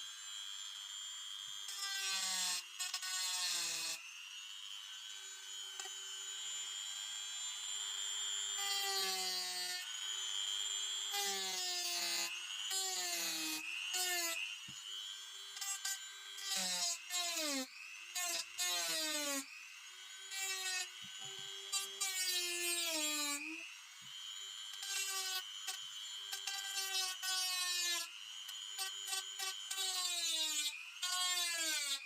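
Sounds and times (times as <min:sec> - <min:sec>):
rotary tool whining: 0:00.0 - 0:32.0.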